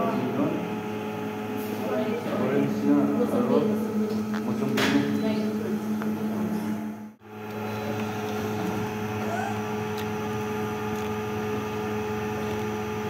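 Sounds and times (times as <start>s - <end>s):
low background hum: 1.6s - 13.0s.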